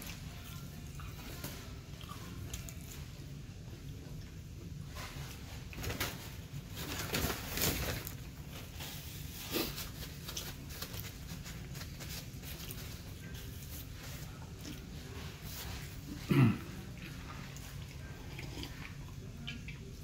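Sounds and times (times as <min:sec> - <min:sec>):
person chewing fries: 0:00.0 - 0:05.8, 0:07.0 - 0:20.0.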